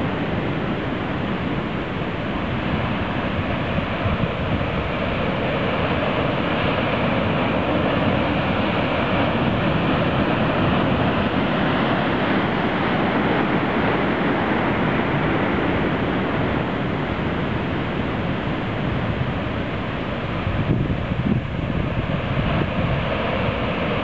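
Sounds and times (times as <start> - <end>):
ocean waves breaking: 0.0 - 24.0
surf rushing up beach: 0.0 - 24.0.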